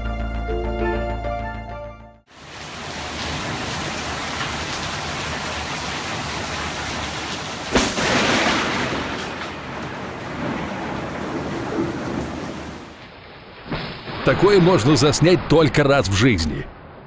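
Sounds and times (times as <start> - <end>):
heavy rain pouring: 2.3 - 16.7
thunderclap rumbling: 2.8 - 17.0.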